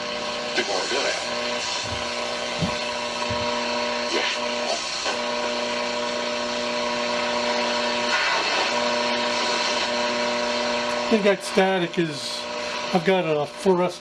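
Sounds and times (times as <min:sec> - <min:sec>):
radio static hiss: 0:00.0 - 0:14.0
steady electrical buzz: 0:00.0 - 0:14.0.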